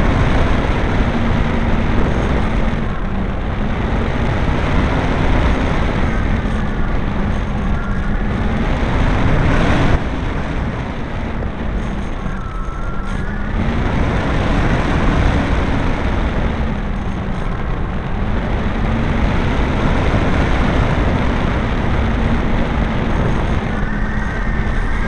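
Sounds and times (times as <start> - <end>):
model airplane propeller drone: 0.0 - 25.0
wind rush: 0.0 - 25.0.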